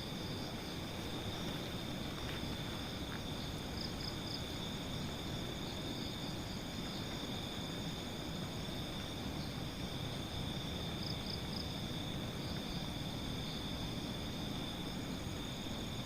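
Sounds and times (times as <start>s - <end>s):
crickets chirping: 0.0s - 16.0s
microphone hiss: 0.0s - 16.0s.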